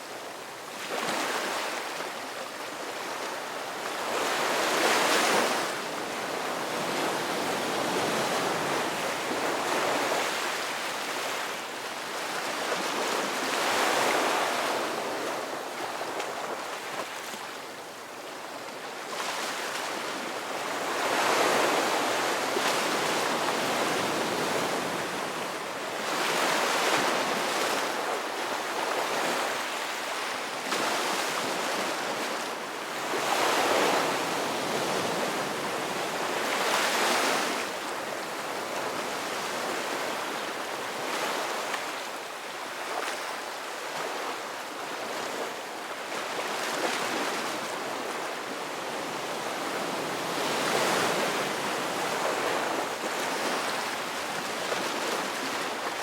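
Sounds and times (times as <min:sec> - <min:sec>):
waves breaking on shore: 0:00.0 - 0:56.0.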